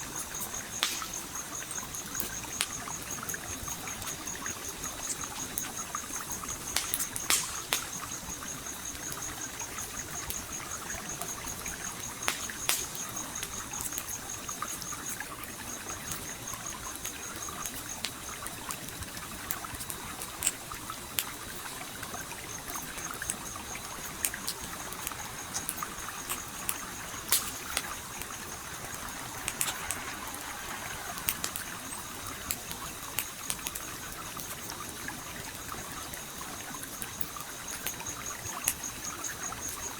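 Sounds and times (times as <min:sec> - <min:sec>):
campfire crackling and popping: 0:00.0 - 0:39.9
stream trickling: 0:00.0 - 0:39.9.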